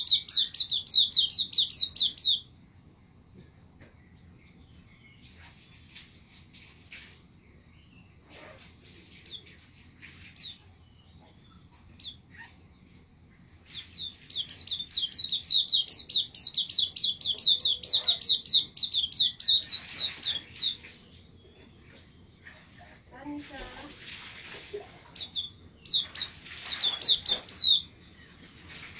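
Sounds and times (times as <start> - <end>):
small bird singing: 0.0 - 2.5, 3.8 - 23.9, 25.0 - 28.9.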